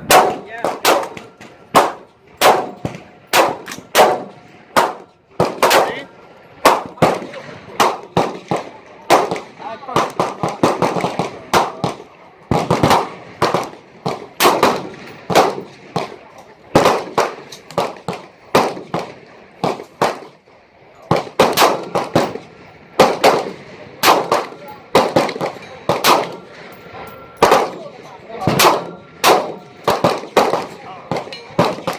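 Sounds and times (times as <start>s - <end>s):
gunshots: 0.0s - 20.4s, 21.1s - 31.9s.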